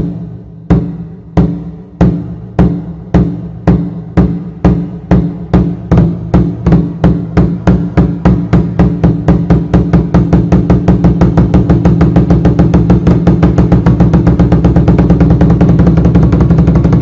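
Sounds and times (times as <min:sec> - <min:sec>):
drum strokes accelerating: 0:00.0 - 0:17.0.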